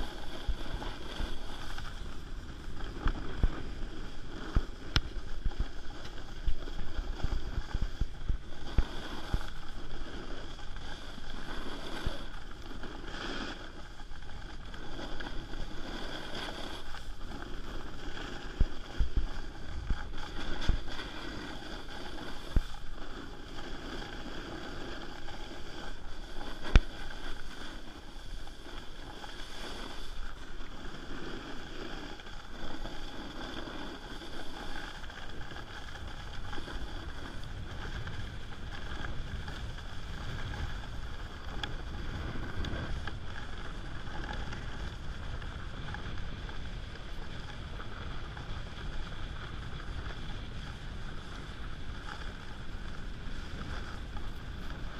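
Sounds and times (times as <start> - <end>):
snowboard scraping on snow: 0.0 - 54.9
wind noise on microphone: 0.0 - 54.9.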